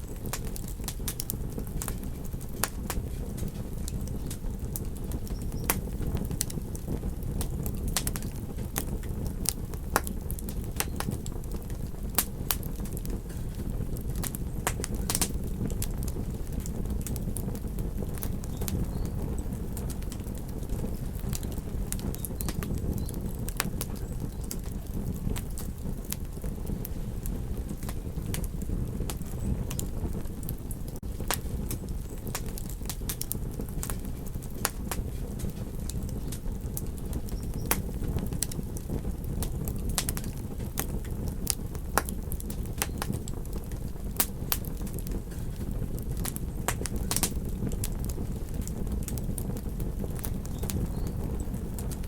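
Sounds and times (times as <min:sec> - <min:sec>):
fire pops and snaps: 0:00.0 - 0:52.0
wood fire crackling: 0:00.0 - 0:52.0.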